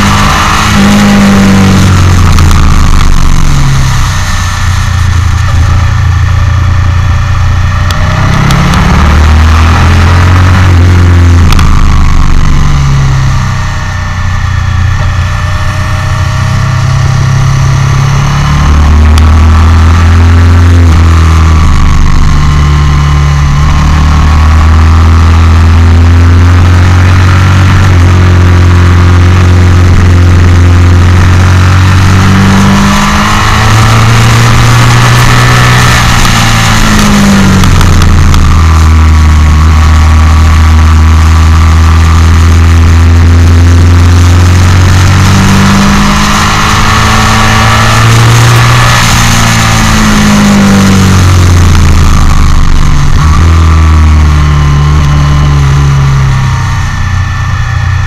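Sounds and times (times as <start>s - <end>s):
motorcycle engine shifting gears: 0.0s - 58.0s.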